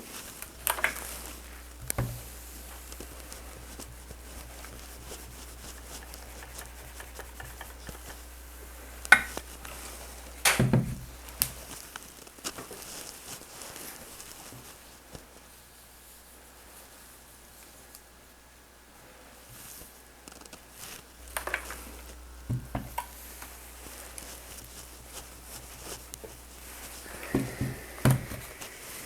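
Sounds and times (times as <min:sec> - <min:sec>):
fabric handling on ironing board: 0:00.0 - 0:15.6, 0:19.5 - 0:29.0.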